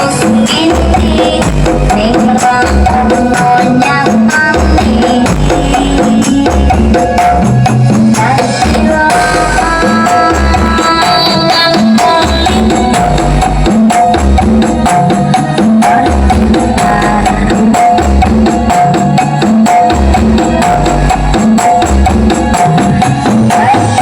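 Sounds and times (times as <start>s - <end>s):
loud dance music: 0.0s - 24.0s.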